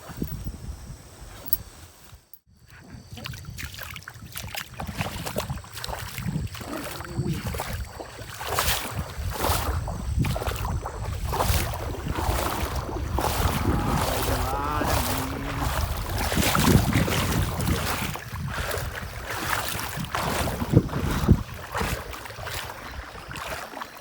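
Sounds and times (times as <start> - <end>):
water sloshing and splashing: 3.0 - 24.0.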